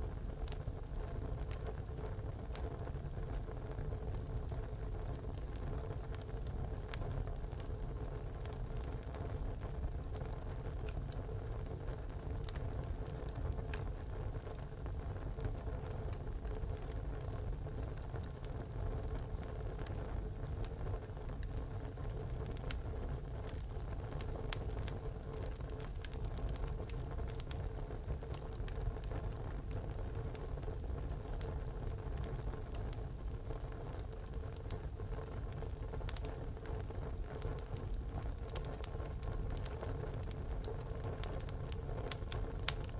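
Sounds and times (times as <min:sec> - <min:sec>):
wood crackling and popping: 0:00.0 - 0:42.9
fire flame rushing: 0:00.1 - 0:42.9.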